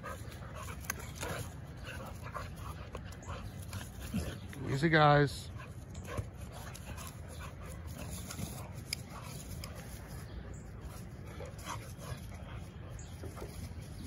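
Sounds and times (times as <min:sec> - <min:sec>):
dogs play-wrestling: 0:00.0 - 0:14.0.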